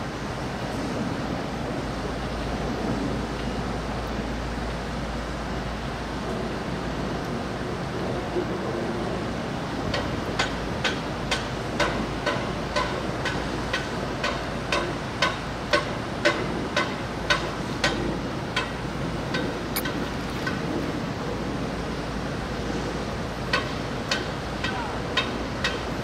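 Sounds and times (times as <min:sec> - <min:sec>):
rain: 0:00.0 - 0:26.0
wind: 0:00.0 - 0:26.0.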